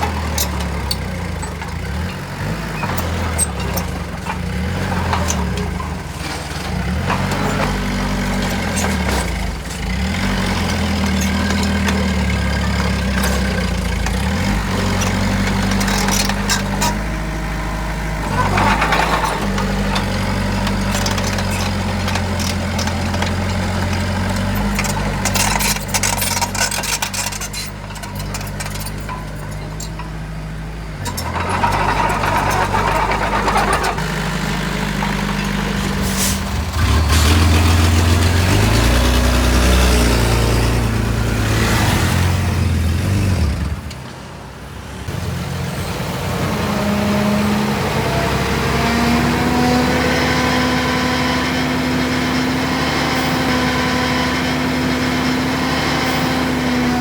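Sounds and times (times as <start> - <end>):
heavy diesel engines working: 0.0 - 57.0.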